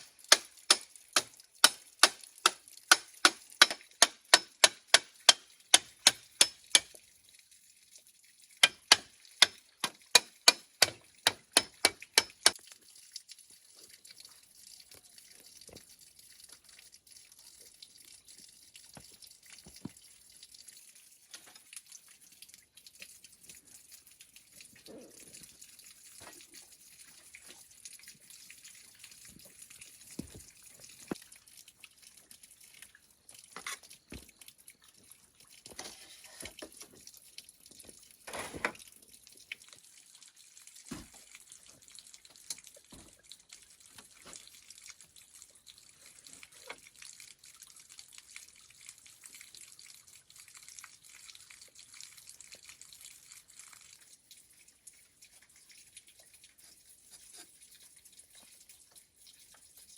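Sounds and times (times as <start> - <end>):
water trickling into sink: 0.0 - 59.9.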